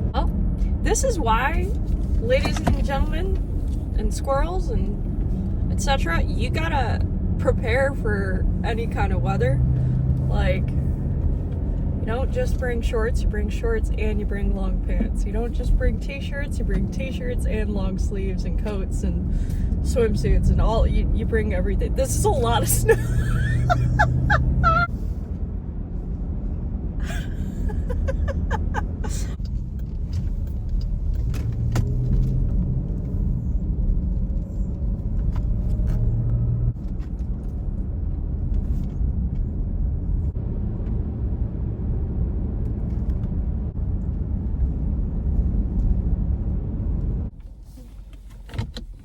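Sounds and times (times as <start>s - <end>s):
road and engine rumble in car: 0.0s - 49.0s.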